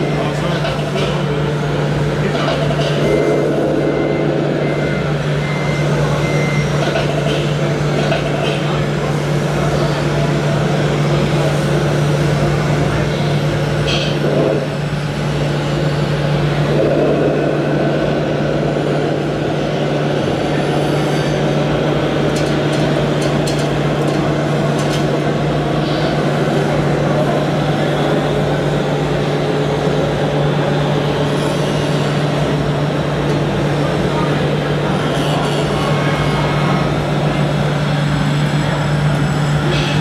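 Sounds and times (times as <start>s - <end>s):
diesel truck engine sound: 0.0s - 40.0s.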